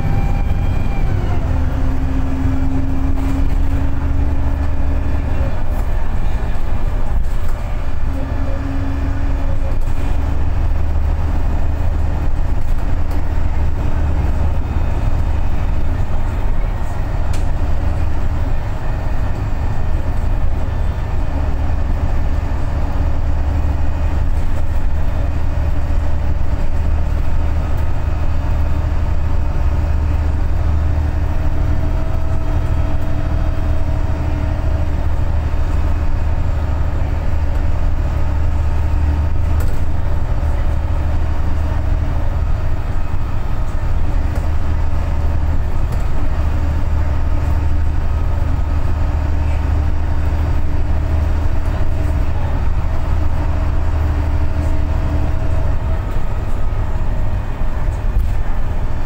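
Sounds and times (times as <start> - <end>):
bus engine drone: 0.0 - 59.0
engine whine: 0.0 - 59.0.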